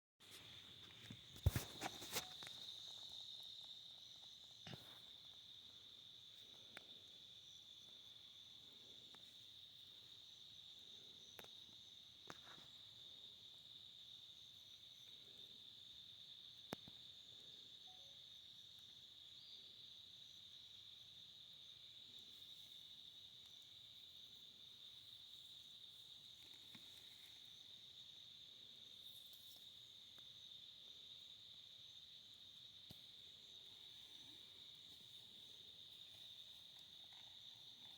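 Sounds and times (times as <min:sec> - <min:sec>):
crickets chirring: 0:00.4 - 0:37.9.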